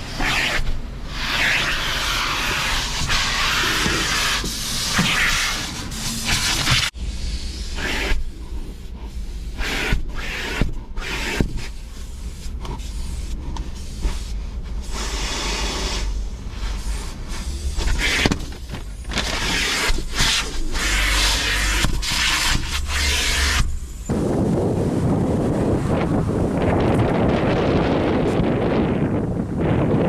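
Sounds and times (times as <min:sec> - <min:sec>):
vacuum cleaner suction: 0:00.0 - 0:24.2.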